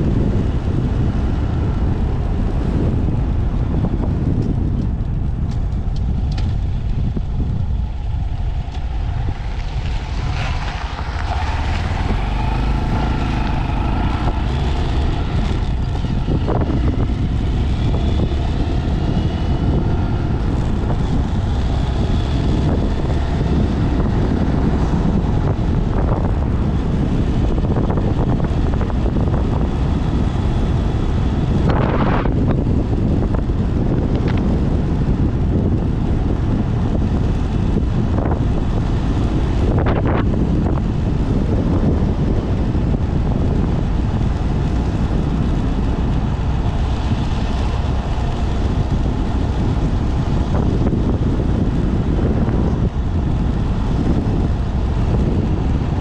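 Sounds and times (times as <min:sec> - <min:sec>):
motorcycle engine: 0:00.0 - 0:56.0
wind buffeting microphone: 0:00.0 - 0:56.0.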